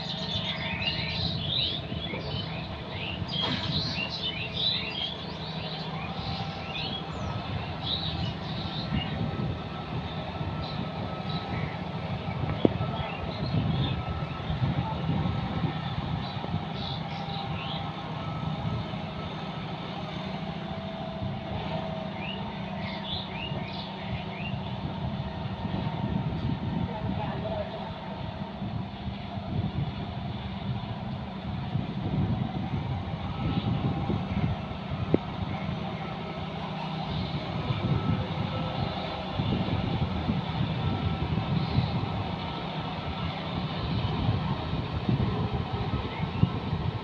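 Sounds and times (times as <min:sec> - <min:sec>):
tractor diesel engine droning: 0:00.0 - 0:47.0.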